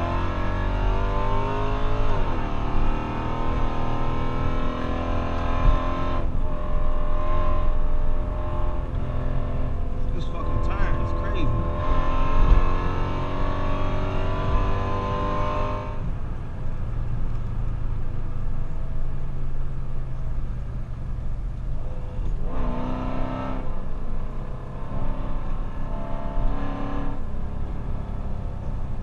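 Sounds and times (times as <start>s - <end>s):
car engine exhaust rumble: 0.0s - 29.0s.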